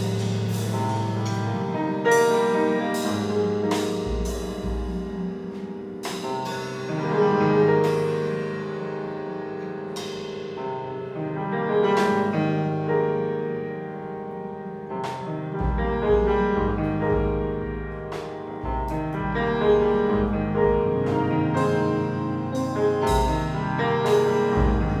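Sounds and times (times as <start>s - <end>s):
piano and guitar notes: 0.0s - 25.0s.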